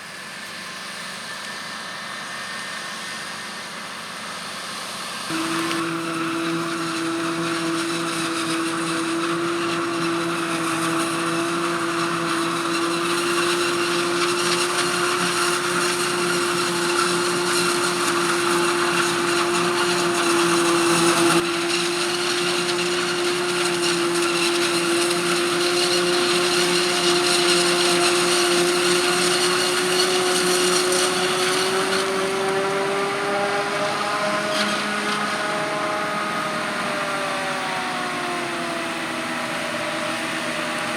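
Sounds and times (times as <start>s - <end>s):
heavy harvest machinery running: 0.0s - 40.9s
steady machine whine: 0.0s - 40.9s.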